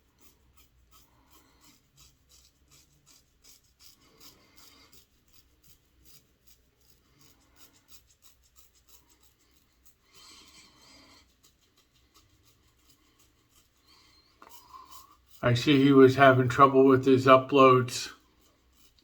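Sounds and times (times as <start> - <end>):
razor scraping stubble: 0.0 - 19.0.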